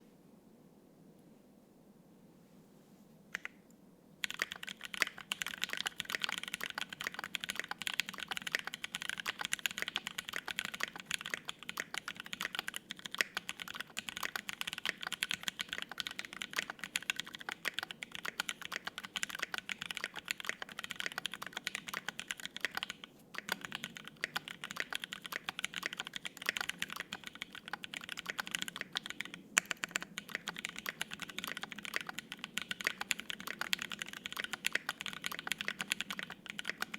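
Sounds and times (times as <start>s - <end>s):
fast mechanical keyboard typing: 4.2s - 36.9s.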